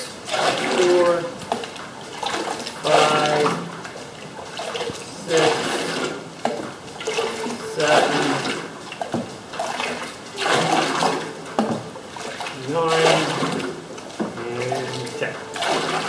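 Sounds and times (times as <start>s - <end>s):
paper pulp splashing into water: 0.0s - 16.0s.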